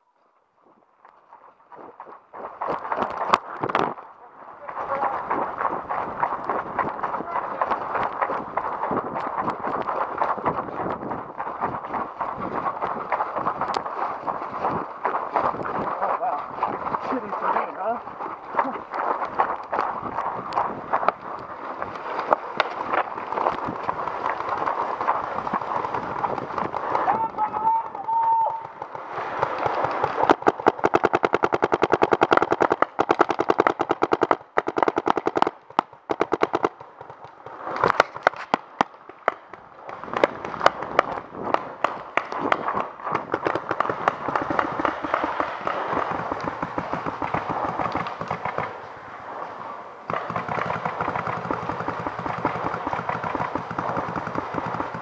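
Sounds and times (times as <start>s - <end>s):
paintball markers firing rapidly: 4.6s - 48.8s, 50.1s - 55.0s.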